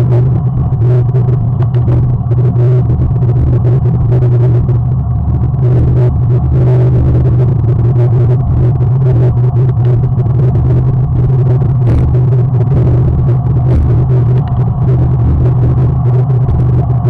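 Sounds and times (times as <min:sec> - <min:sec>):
loud low rumble: 0:00.0 - 0:17.0.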